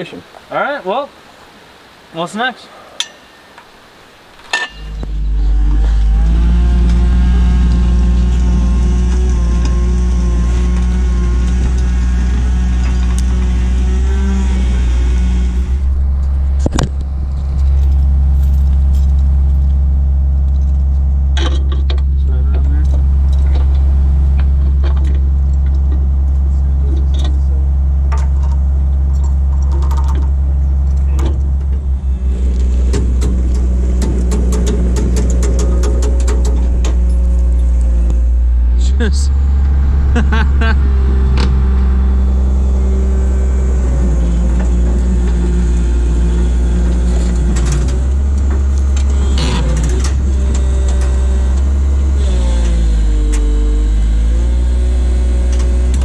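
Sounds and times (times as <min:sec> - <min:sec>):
engine idling: 0:04.8 - 0:56.0
motor running with deep drone: 0:04.8 - 0:56.0.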